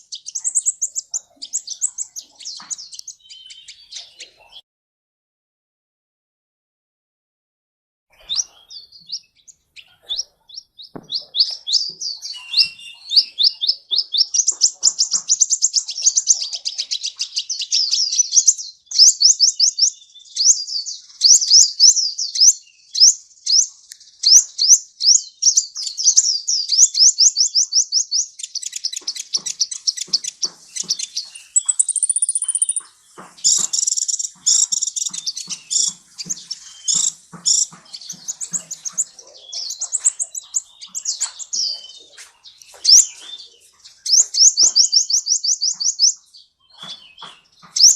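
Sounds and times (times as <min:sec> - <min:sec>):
sunbird singing high chirps: 0:00.0 - 0:04.6, 0:08.1 - 0:47.9.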